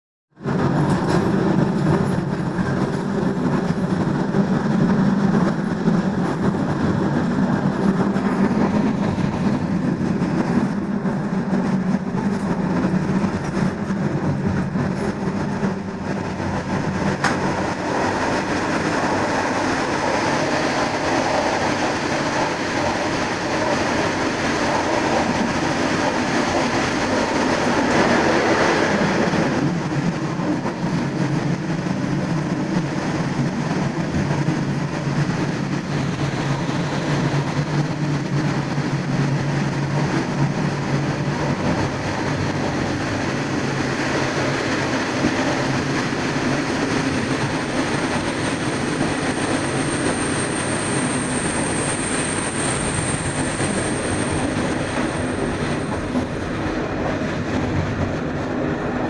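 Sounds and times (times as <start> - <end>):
train wheels rumbling on rail: 0.4 - 59.0.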